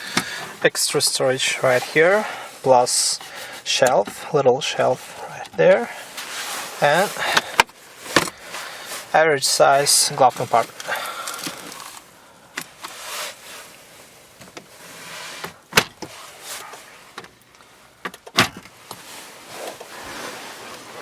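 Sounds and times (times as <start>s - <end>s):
soft handling rustle: 0.0s - 18.0s, 18.7s - 21.0s.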